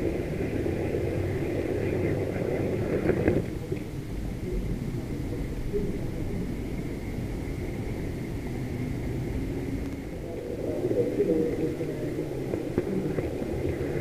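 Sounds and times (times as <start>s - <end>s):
model trains rumbling: 0.0s - 14.0s.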